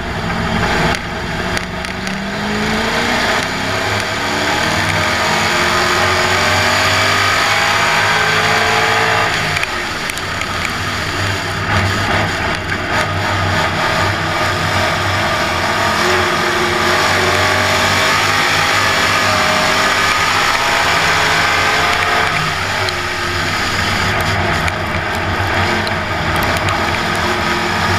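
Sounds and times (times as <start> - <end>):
race car engine running loud: 0.0 - 27.9.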